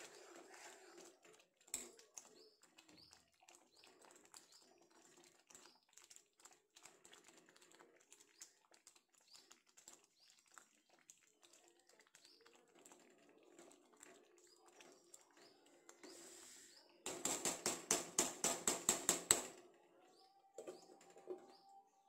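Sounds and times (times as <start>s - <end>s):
curry simmering with small pops: 0.0s - 22.0s.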